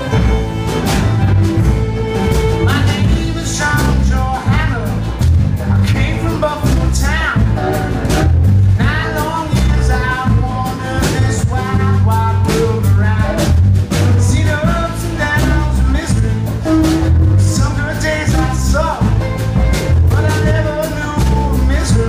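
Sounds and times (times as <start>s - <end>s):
folk-blues band playing: 0.0s - 22.0s
man singing: 2.4s - 22.0s.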